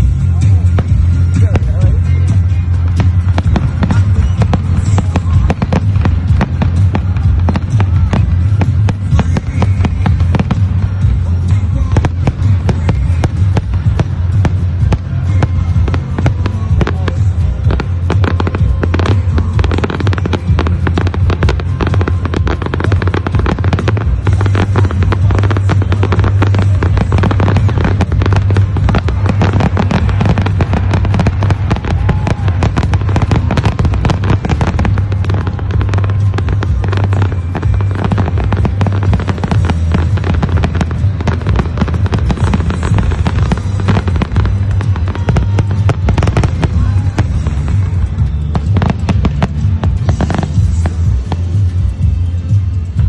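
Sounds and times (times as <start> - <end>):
deep rumble: 0.0 - 53.0
fireworks bangs and crackles: 0.0 - 53.0.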